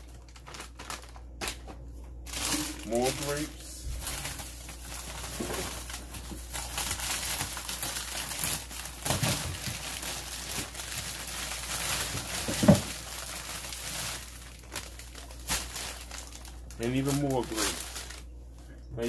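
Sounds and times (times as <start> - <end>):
plastic packaging crinkling: 0.0 - 18.4.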